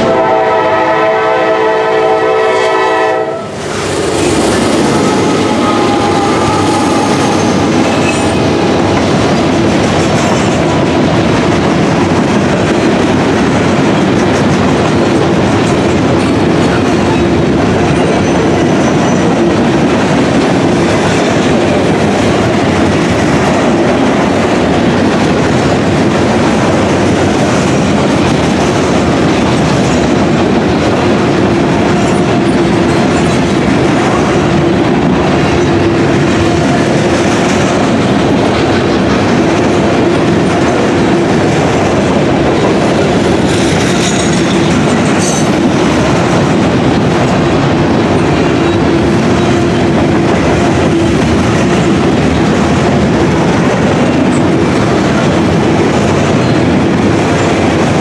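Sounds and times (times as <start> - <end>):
train wheels rumbling on rails: 0.0 - 58.0
clickety-clack over rail joints: 0.1 - 58.0.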